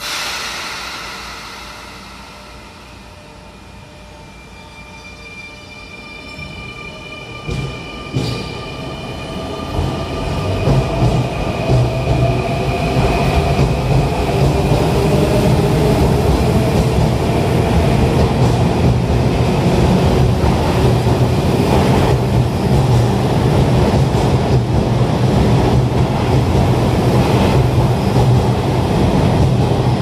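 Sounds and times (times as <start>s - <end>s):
electric train rumbling through station: 0.0s - 30.0s.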